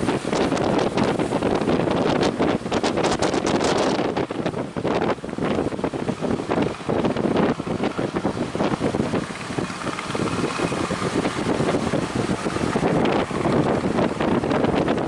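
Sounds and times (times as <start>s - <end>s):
faint speedboat engine: 0.0s - 15.0s
surf: 0.0s - 15.0s
wind buffeting microphone: 0.0s - 15.0s.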